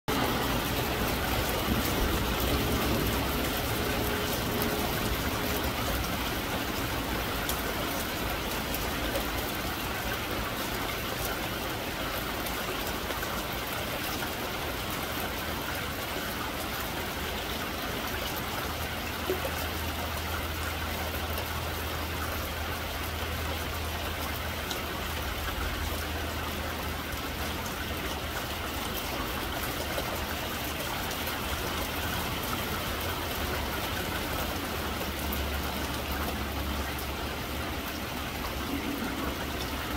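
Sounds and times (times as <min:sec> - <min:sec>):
rain on a metal roof: 0:00.1 - 0:39.9.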